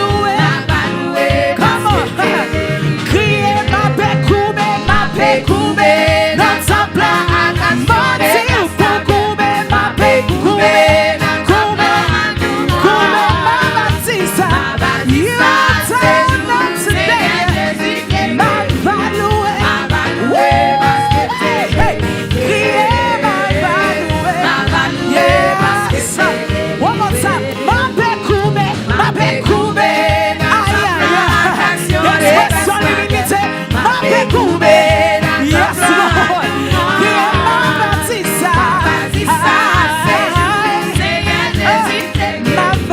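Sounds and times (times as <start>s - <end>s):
band with steady beat: 0.0s - 42.9s
gospel singing: 0.0s - 42.9s.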